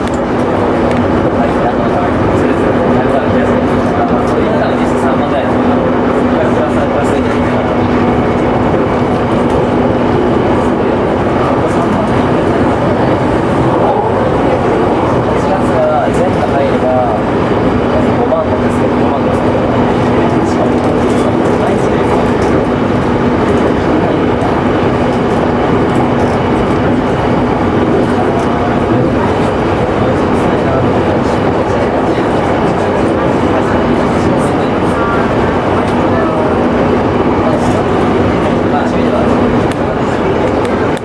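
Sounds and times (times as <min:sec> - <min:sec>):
low train hum: 0:00.0 - 0:41.0
train wheels rumbling on rail: 0:00.0 - 0:41.0.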